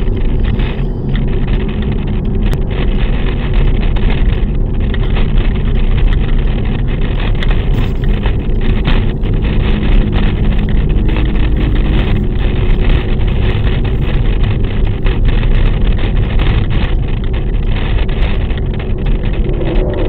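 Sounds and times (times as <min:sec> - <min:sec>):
objects rattling on dashboard: 0:00.0 - 0:20.0
road and wind rumble: 0:00.0 - 0:20.0.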